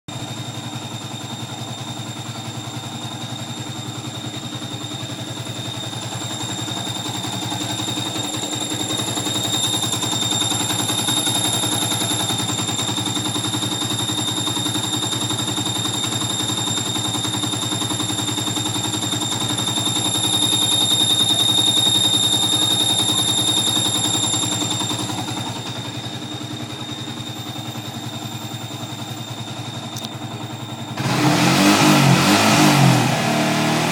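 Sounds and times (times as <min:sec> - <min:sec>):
motorcycle engine idling: 0:00.1 - 0:32.9.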